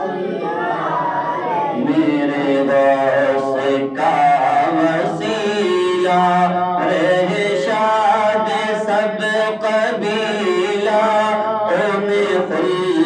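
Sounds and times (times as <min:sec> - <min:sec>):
chanted vocal backing: 0:00.0 - 0:13.0
man singing unaccompanied: 0:01.7 - 0:13.0.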